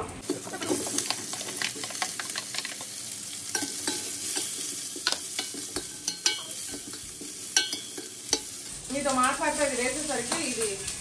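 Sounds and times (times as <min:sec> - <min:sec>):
vegetables sizzling in hot oil: 0:00.1 - 0:11.0.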